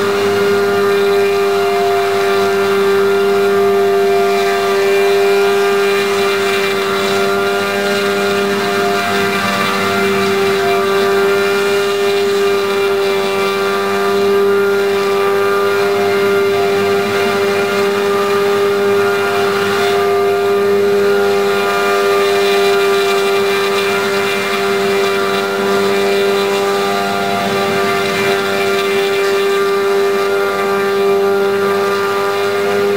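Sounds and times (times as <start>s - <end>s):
jetpack engine running: 0.0s - 32.9s.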